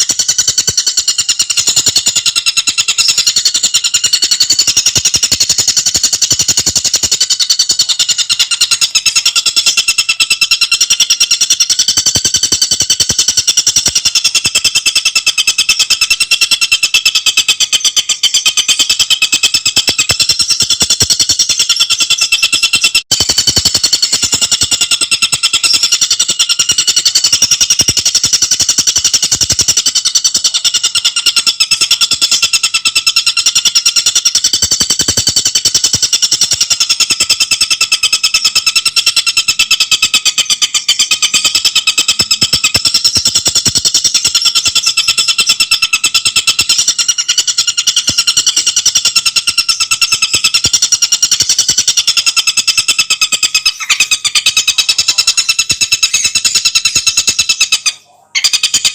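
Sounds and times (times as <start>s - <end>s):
bird chattering rattle: 0.0s - 58.9s.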